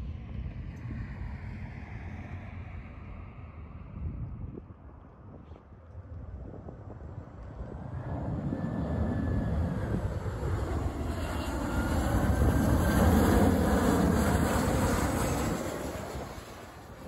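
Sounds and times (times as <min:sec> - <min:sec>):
faint engine whine: 0:00.0 - 0:17.0
jet airliner engines: 0:00.0 - 0:17.0.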